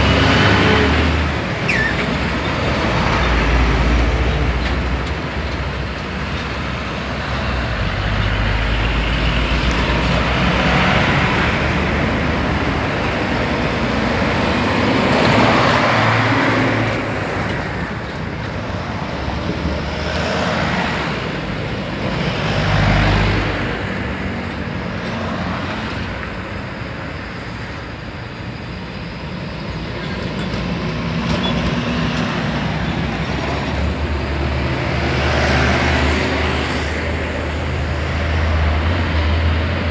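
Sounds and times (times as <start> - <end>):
heavy highway traffic rumble: 0.0 - 39.9.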